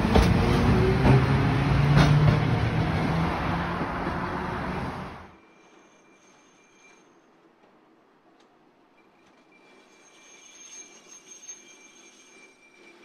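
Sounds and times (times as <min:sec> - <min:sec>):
tram rumbling past: 0:00.0 - 0:13.0.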